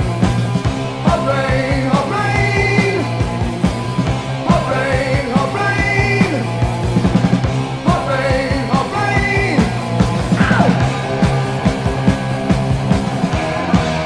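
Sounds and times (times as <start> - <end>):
heavy metal song: 0.0 - 14.0
high melodic guitar line bending: 0.0 - 14.0.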